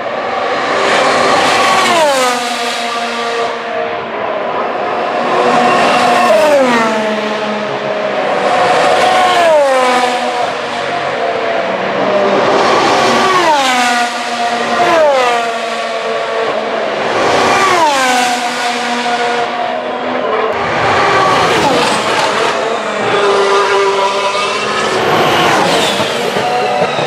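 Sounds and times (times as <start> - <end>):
racing car engines passing at speed: 0.0 - 27.0.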